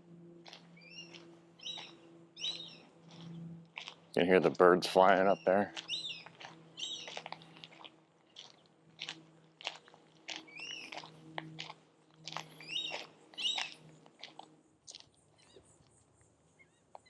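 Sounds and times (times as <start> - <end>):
faint steady hum: 0.0 - 17.0
footsteps crunching on trail: 0.4 - 15.7
birds chirping: 0.4 - 17.0.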